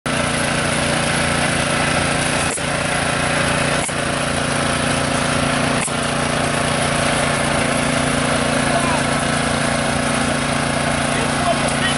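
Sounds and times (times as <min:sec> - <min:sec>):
tractor engine running: 0:00.1 - 0:11.9.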